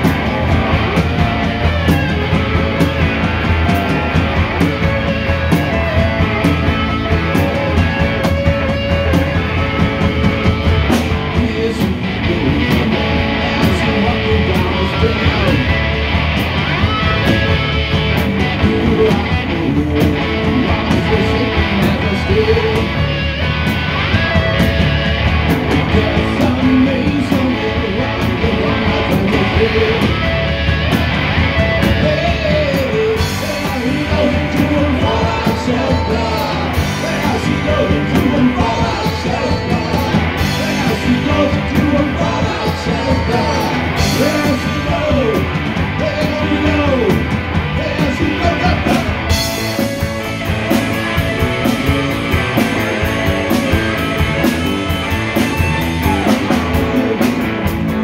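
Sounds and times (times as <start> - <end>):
person singing: 0.0 - 10.1, 10.9 - 15.8, 18.4 - 23.1, 25.8 - 30.3, 31.6 - 50.9, 51.6 - 57.5
bass guitar: 0.0 - 58.0
drum kit: 0.0 - 58.0
electric guitars: 0.0 - 58.0.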